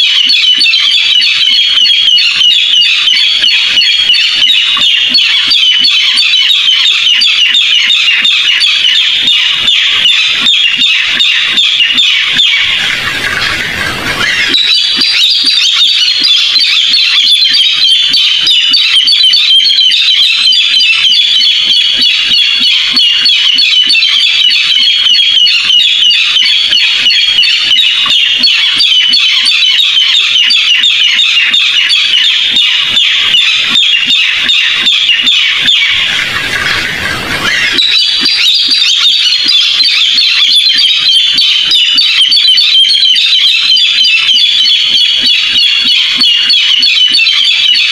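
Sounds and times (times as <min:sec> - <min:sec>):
bird calling harsh repeated notes: 0:00.0 - 0:47.9.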